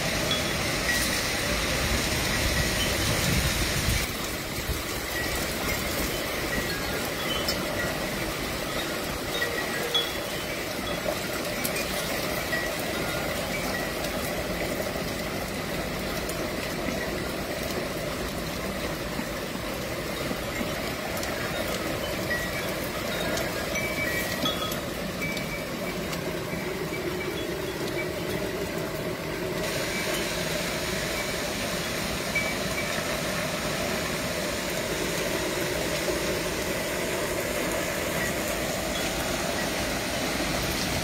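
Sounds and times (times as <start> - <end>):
tubular wind chime ringing: 0.1 - 17.8, 19.8 - 41.0.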